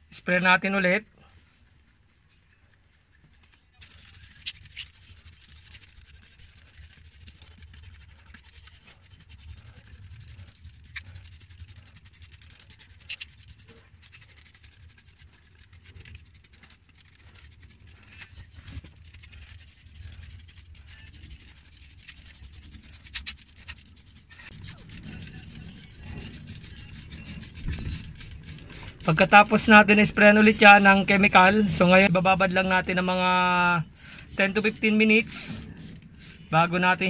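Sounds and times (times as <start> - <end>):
spray bottle hissing: 3.8 - 18.1, 19.1 - 37.0.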